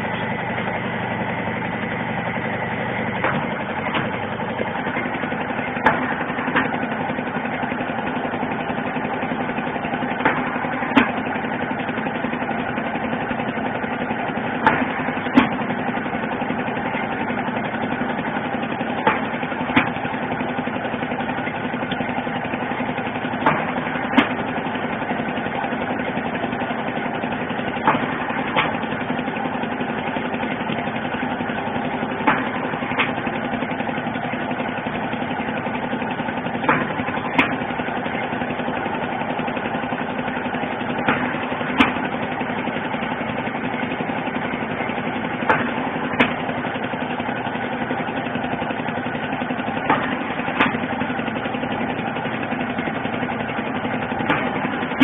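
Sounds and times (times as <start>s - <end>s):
machine motor hum: 0.0s - 55.0s
sharp mechanical clacks: 1.1s - 55.0s.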